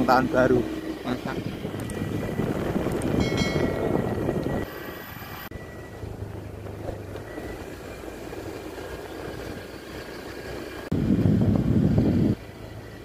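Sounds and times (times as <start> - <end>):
motorcycle engine running: 0.0 - 4.7, 5.6 - 13.0
wind noise: 1.1 - 9.6, 10.4 - 13.0.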